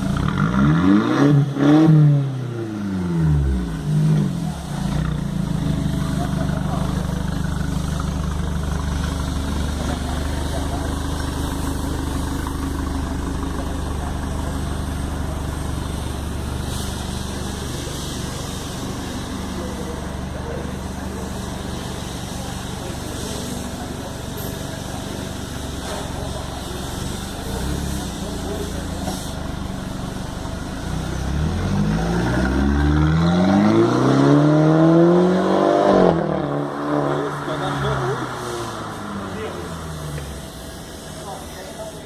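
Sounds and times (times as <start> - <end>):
car engine idling: 0.0 - 33.8, 34.5 - 42.0.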